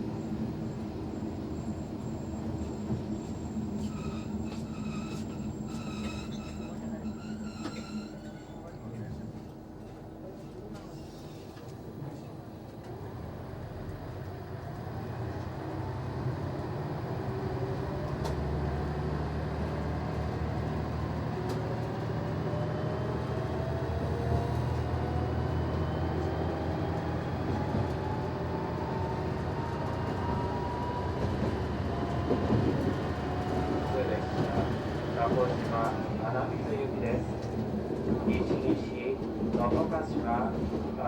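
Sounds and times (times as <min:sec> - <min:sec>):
diesel railcar engine rumble: 0:00.0 - 0:41.0.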